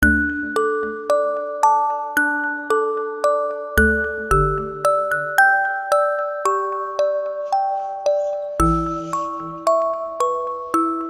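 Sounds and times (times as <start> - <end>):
chiming bell-like melody: 0.0 - 11.0.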